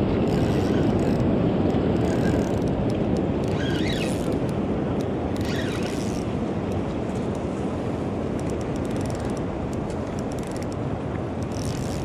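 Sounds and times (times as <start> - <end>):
turbulent river water: 0.0 - 12.0
wind on microphone: 0.0 - 12.0.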